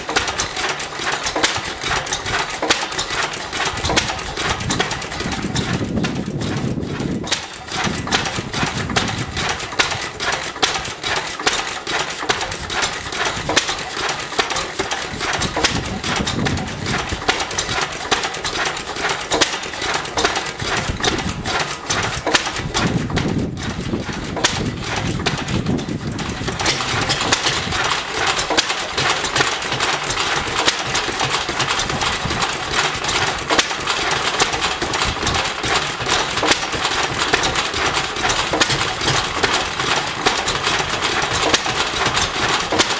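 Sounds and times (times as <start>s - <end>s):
stationary engines running: 0.0s - 42.9s.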